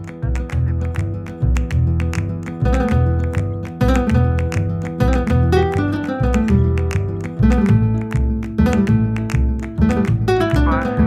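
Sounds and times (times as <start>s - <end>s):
pulsing bass line: 0.0s - 11.0s
strummed acoustic guitar: 0.0s - 11.0s.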